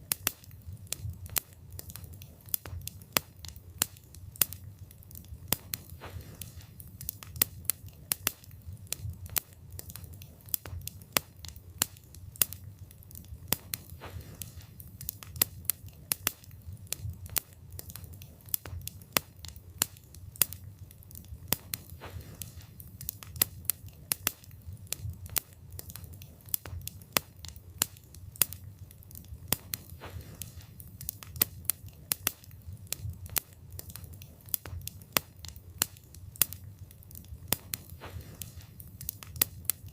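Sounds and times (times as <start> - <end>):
burning wood crackling and popping: 0.0 - 39.9
low rumble of flames: 0.0 - 39.9.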